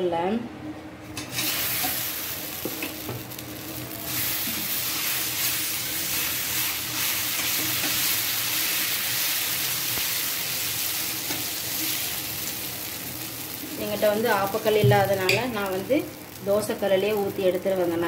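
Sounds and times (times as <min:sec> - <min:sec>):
batter sizzling on griddle: 0:01.2 - 0:18.0.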